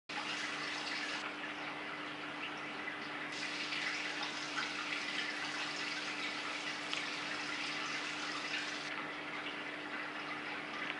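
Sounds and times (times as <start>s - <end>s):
steady hum: 0.1s - 10.0s
aquarium water splashing: 0.1s - 10.9s.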